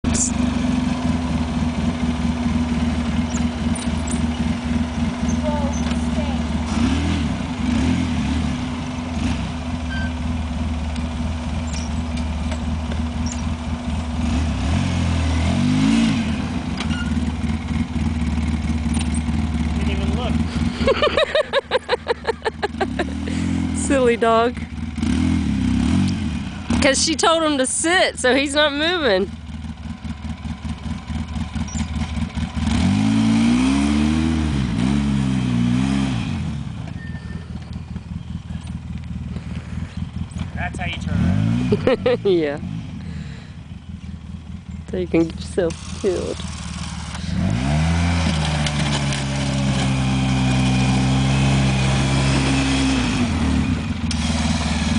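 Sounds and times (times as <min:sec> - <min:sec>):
atv engine plowing snow: 0:00.1 - 0:44.2, 0:44.9 - 0:54.9.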